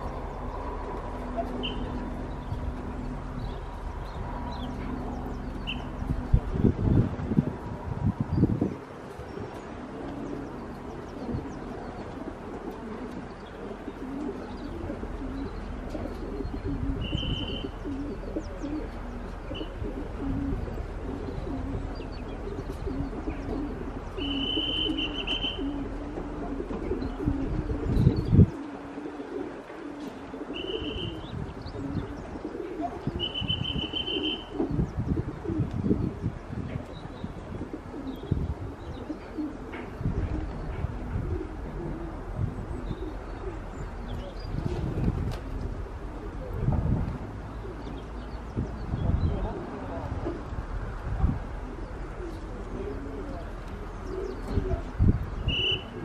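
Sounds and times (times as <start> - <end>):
wind buffeting microphone: 0.0 - 24.2, 24.8 - 28.9, 30.4 - 56.0
pigeons cooing: 0.0 - 56.0.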